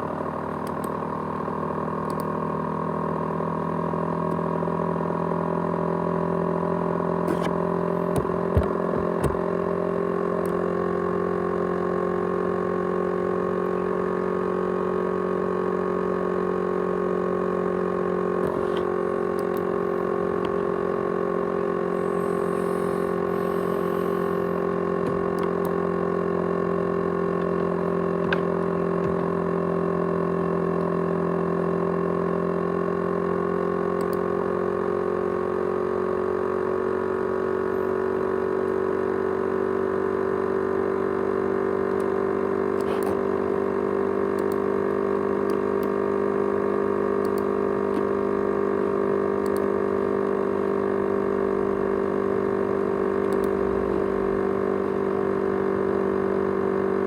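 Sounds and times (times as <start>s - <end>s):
hard disk drive whining hum: 0.0s - 57.0s.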